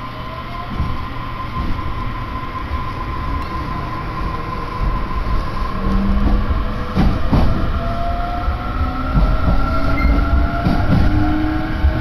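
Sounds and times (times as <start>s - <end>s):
electric train whine: 0.0s - 12.0s
train running gear rumble: 0.0s - 12.0s.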